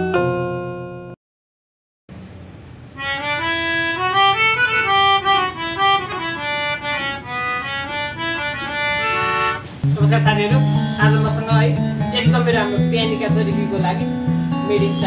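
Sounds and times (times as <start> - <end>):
melodica melody: 2.9 - 15.0.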